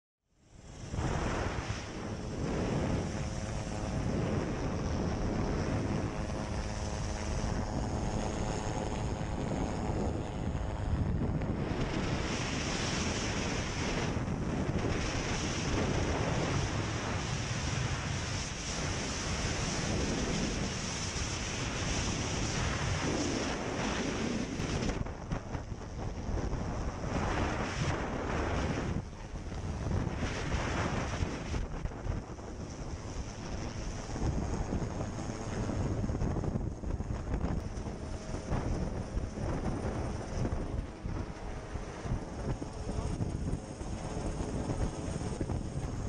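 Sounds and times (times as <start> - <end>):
faint multi-tone hum: 0.3 - 46.0
helicopter rotor hovering: 0.5 - 46.0
wind buffeting microphone: 0.6 - 46.0.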